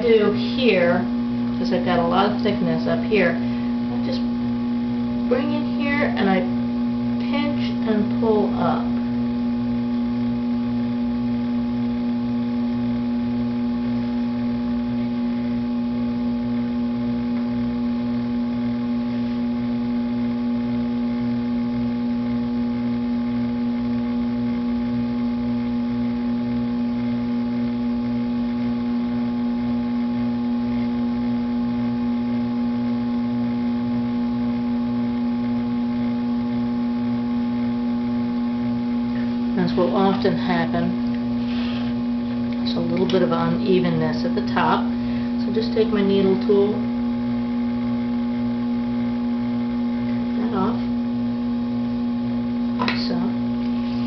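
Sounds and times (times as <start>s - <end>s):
potter's wheel motor hum: 0.0s - 54.0s.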